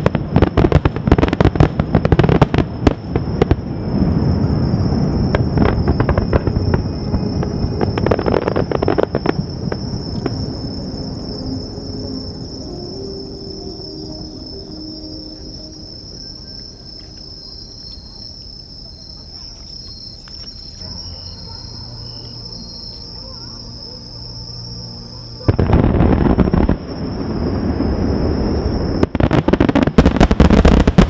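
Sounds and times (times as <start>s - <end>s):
crickets chirping: 0.0s - 31.0s
fireworks explosions: 0.0s - 31.0s.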